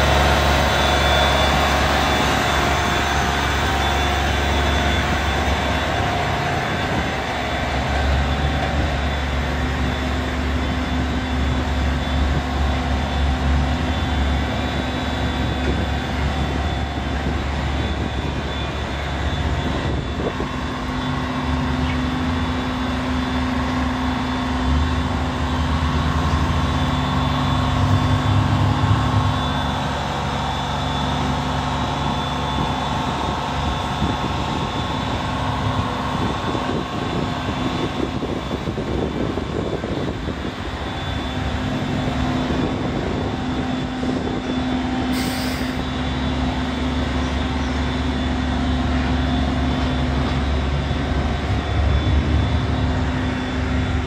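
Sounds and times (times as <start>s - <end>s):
compressor whine: 0.0s - 54.0s
diesel engine drone: 0.0s - 54.0s.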